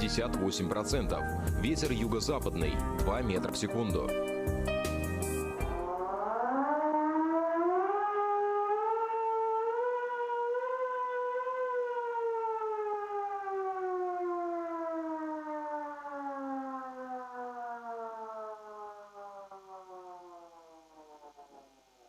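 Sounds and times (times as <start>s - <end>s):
warning siren wailing: 0.0s - 22.0s.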